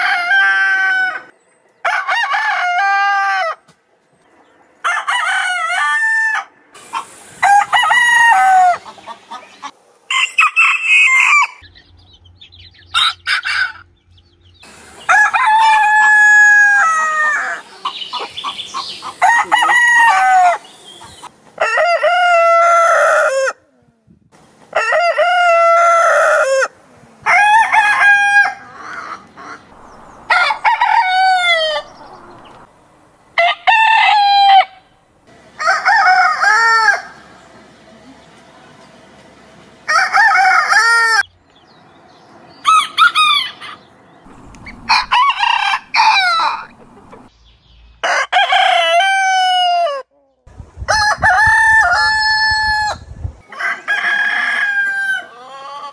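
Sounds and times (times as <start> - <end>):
roosters crowing: 0.0 - 3.7, 4.8 - 23.7, 24.7 - 37.8, 39.4 - 41.3, 42.0 - 47.3, 48.0 - 55.9.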